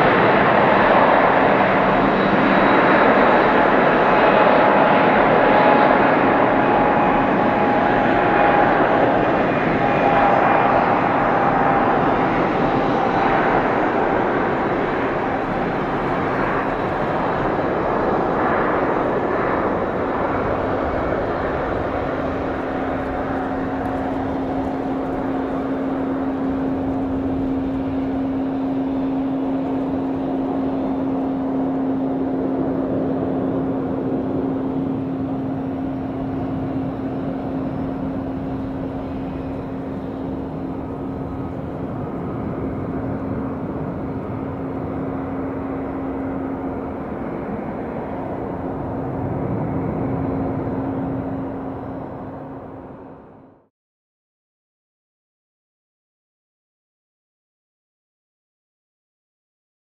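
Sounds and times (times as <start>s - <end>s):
strong humming tone: 0.0s - 53.6s
jet engines roaring at takeoff: 0.0s - 53.7s.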